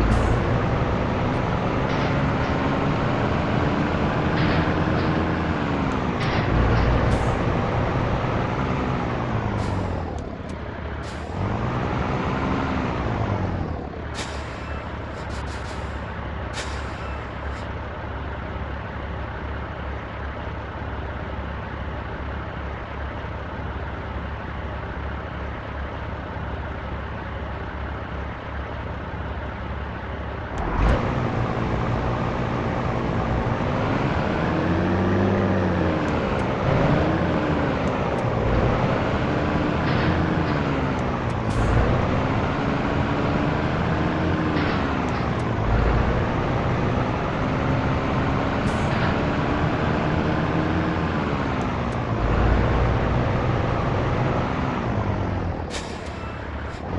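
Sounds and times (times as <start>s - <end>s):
heavy truck diesel engine: 0.0s - 56.9s.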